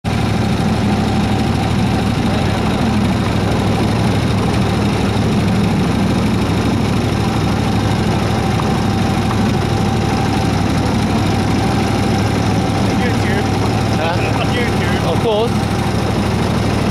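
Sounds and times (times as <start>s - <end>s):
locomotive engine running: 0.0s - 16.9s.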